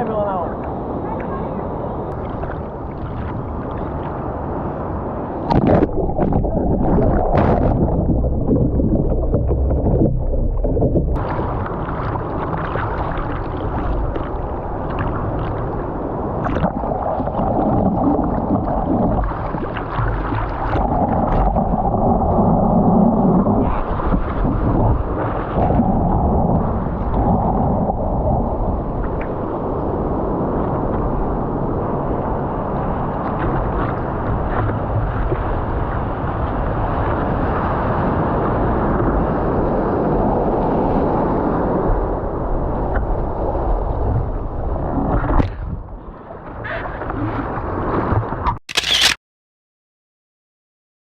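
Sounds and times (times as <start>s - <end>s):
muffled ocean surf rushing: 0.0s - 48.6s.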